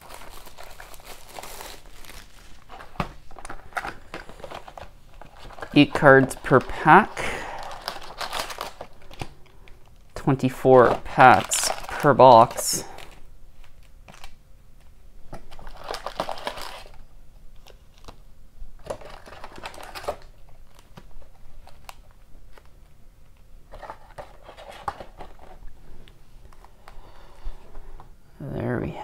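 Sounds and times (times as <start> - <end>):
foil card packs crinkling: 0.0 - 14.4, 15.3 - 18.2, 18.8 - 22.8, 23.6 - 27.4.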